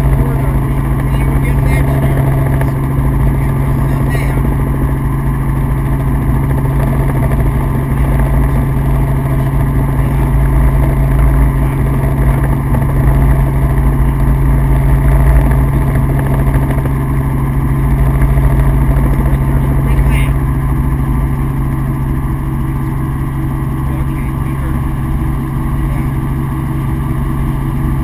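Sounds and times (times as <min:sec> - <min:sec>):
helicopter engine and rotor drone: 0:00.0 - 0:28.0.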